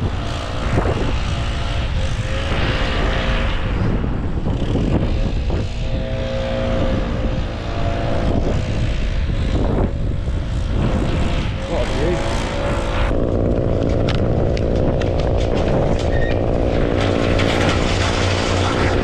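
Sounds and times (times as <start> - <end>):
faint engine hum: 0.0 - 19.0
wind buffeting microphone: 0.0 - 19.0.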